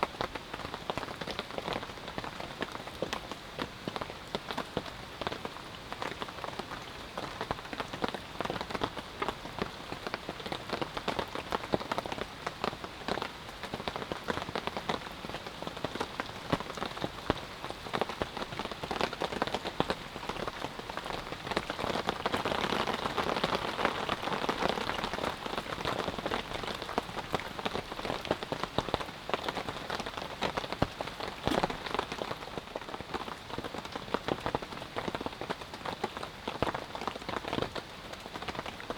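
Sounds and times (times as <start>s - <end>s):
rain drops pattering: 0.0s - 38.9s.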